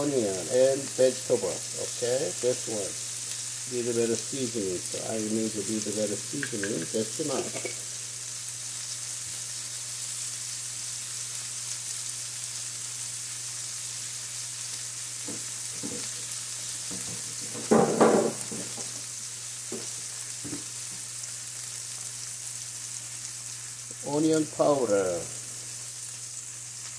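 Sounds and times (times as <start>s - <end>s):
meat sizzling in a frying pan: 0.0s - 26.9s.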